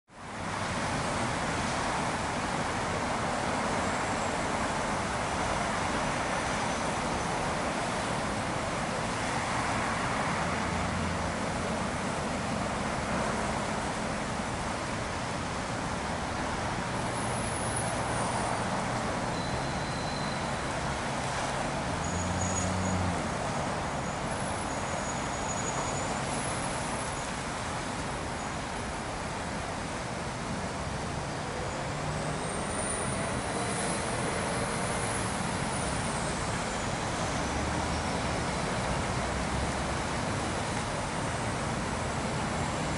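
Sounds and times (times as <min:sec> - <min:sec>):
cars passing: 0:00.2 - 0:42.9.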